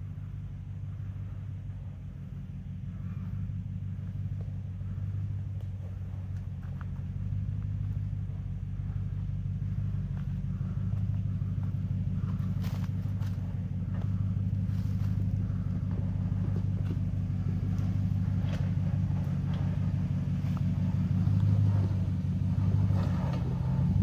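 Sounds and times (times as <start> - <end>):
truck engine low drone: 0.0 - 24.0.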